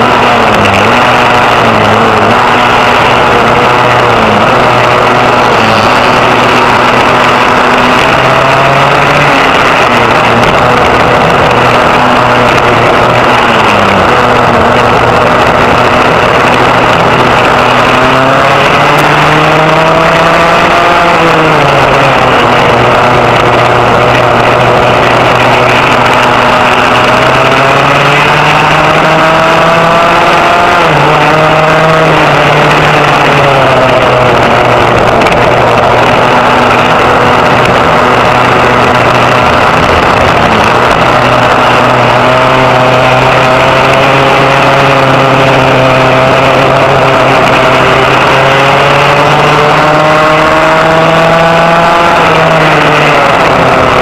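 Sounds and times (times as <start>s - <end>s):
kart engine at high revs: 0.0s - 54.0s
other karts engine tone: 0.0s - 54.0s.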